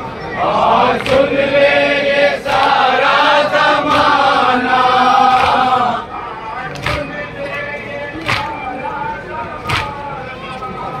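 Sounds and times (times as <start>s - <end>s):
men chanting in unison: 0.4s - 11.0s.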